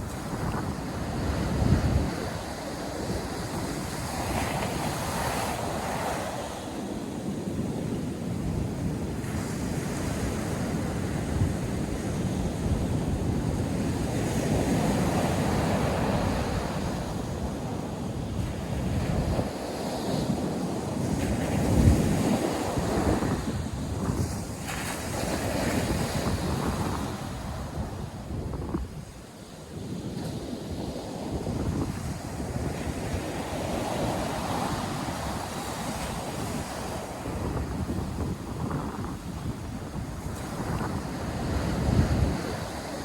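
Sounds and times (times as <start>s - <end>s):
surf washing in and out: 0.0s - 43.0s
wind buffeting microphone: 0.0s - 43.0s.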